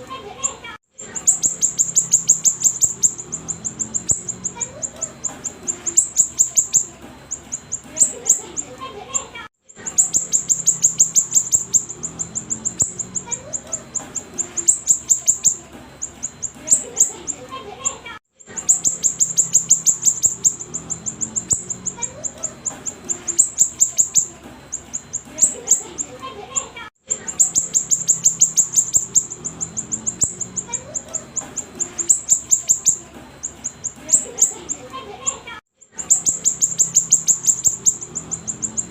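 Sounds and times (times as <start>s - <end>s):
songbird rapid high chirps: 0.4s - 17.5s, 18.4s - 38.9s
bird singing sharp high notes: 1.1s - 8.6s, 9.8s - 17.2s, 18.5s - 25.9s, 27.1s - 34.8s, 35.9s - 38.9s.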